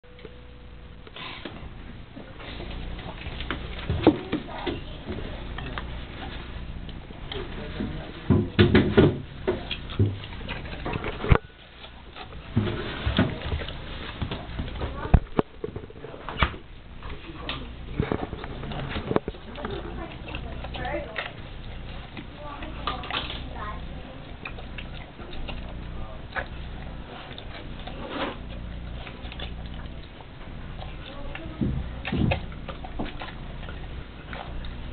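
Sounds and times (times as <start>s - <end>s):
steady low hum: 0.0s - 34.9s
dog chewing food: 0.2s - 34.9s.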